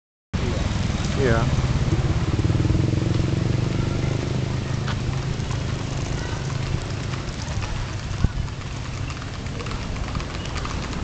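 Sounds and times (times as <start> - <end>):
vehicle engine running: 0.4 - 11.0
horse hooves on asphalt: 0.8 - 11.0.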